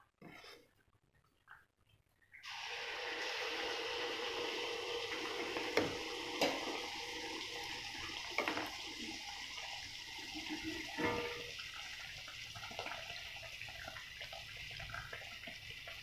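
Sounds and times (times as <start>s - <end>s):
batter sizzling in hot oil: 2.4s - 16.0s.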